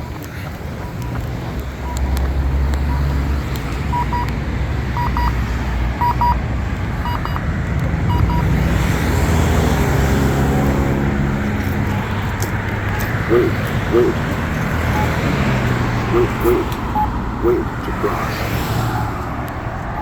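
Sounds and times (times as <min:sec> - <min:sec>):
pedestrian signal locator beeps: 0:00.0 - 0:08.6, 0:11.6 - 0:19.2
road traffic: 0:00.0 - 0:20.0
vehicle passing: 0:00.0 - 0:20.0.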